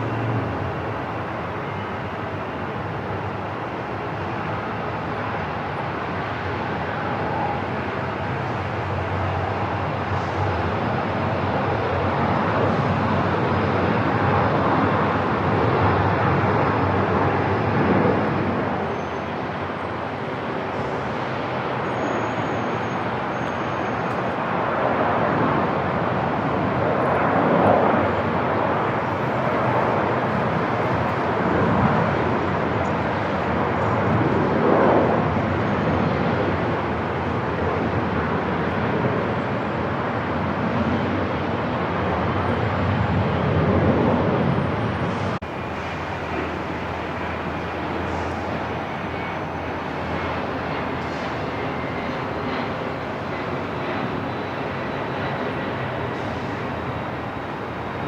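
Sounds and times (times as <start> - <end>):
aircraft engines rushing: 0.0 - 58.0.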